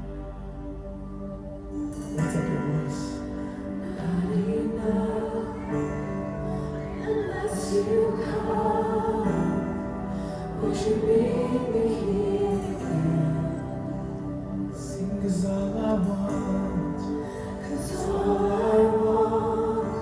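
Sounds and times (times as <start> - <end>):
voices singing: 3.6 - 20.0.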